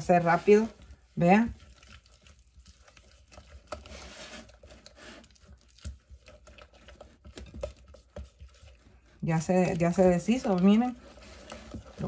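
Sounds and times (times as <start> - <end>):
spatula scraping in glass cup: 0.0 - 12.0.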